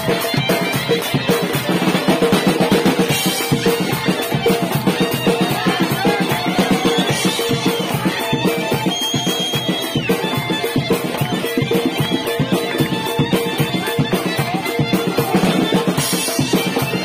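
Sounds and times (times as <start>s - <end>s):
drum kit snare and cymbals: 0.0s - 17.0s.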